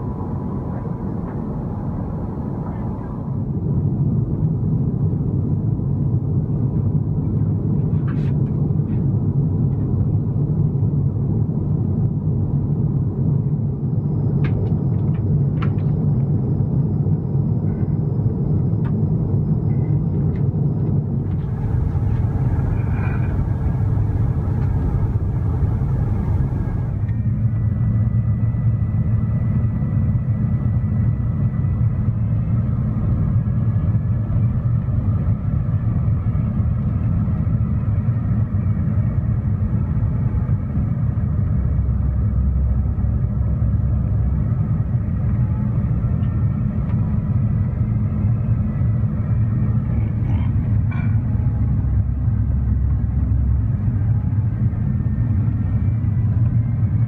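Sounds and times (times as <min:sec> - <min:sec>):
aircraft engine rumble: 0:00.0 - 0:57.0.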